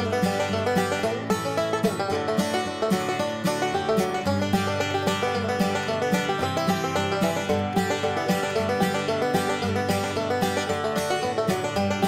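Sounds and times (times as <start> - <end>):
plucked notes over bass line: 0.0 - 12.0.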